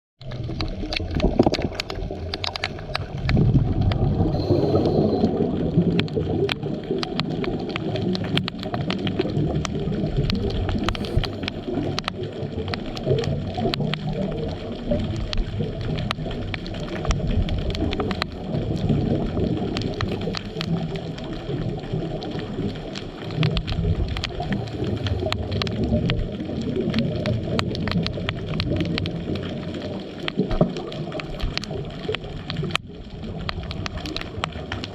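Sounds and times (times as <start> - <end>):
low underwater rumble: 0.2 - 34.9
sharp clicks and crackles: 0.2 - 34.9.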